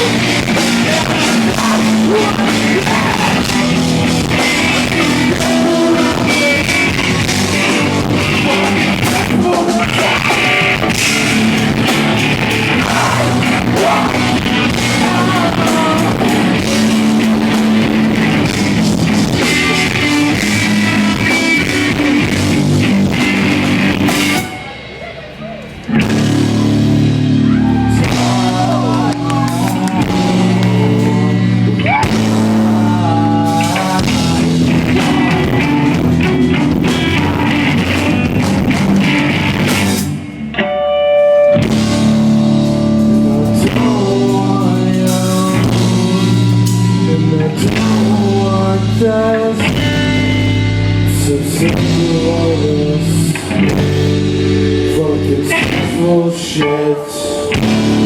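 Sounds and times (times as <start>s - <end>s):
person singing: 0.0s - 24.7s, 27.4s - 39.9s, 43.0s - 58.0s
drum kit: 0.0s - 40.5s, 41.5s - 56.2s, 57.5s - 58.0s
electric guitar: 0.0s - 58.0s.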